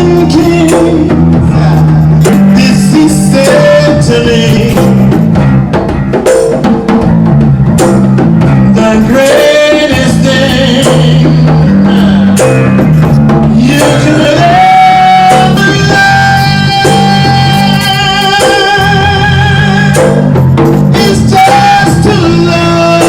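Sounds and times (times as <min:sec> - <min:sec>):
electric bass line: 0:00.0 - 0:23.0
percussion hits: 0:00.0 - 0:23.0.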